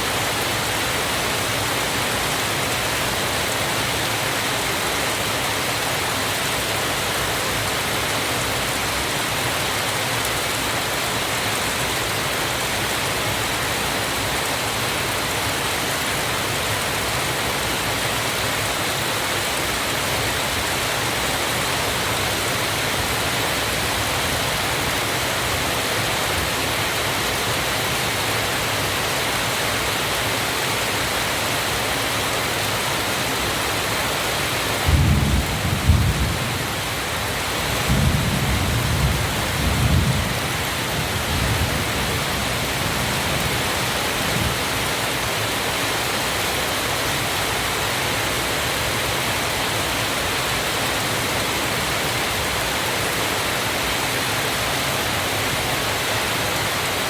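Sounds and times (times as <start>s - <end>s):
waterfall rushing: 0.0s - 35.0s, 40.4s - 57.0s.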